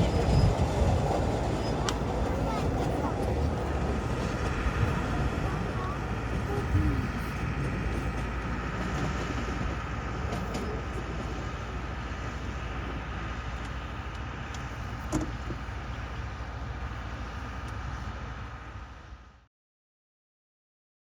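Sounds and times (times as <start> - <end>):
vehicle running rumble and whine: 0.0 - 19.5.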